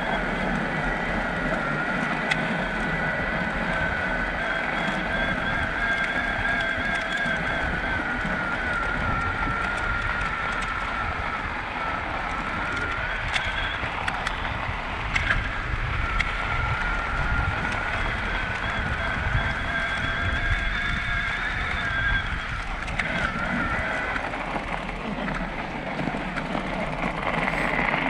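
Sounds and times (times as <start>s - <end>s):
electric bike motor whine: 0.0s - 28.0s
tyres on packed snow: 0.0s - 28.0s
wind noise: 0.0s - 28.0s.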